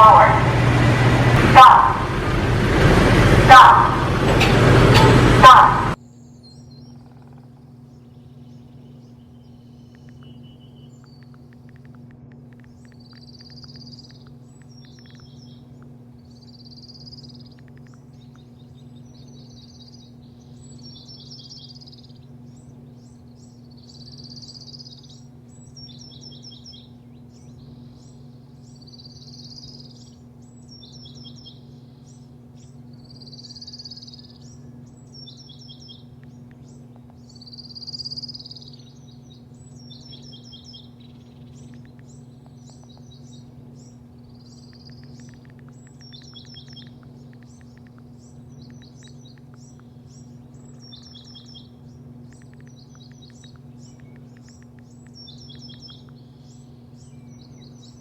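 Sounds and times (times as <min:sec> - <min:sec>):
low machine hum: 0:00.0 - 0:58.0
songbird singing: 0:00.0 - 0:58.0.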